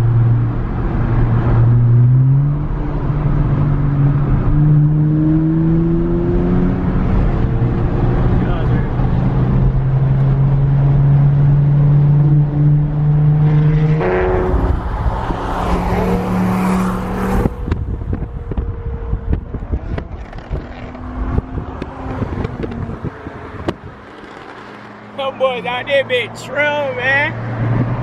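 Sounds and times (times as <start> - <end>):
car engine droning: 0.0 - 28.0
road noise: 0.0 - 28.0.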